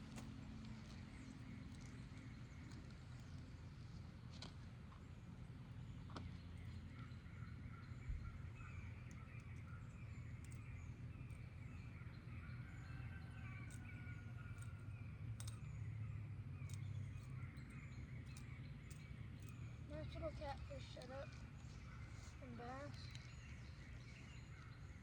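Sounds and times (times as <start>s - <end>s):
distant birds chirping: 0.0s - 25.0s.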